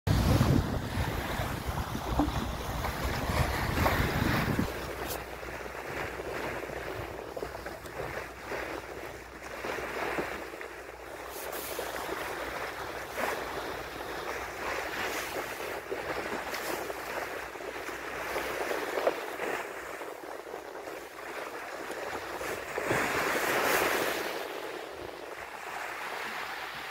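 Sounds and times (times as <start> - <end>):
bow wave rushing and splashing: 0.1 - 26.9
wind buffeting microphone: 0.1 - 26.9.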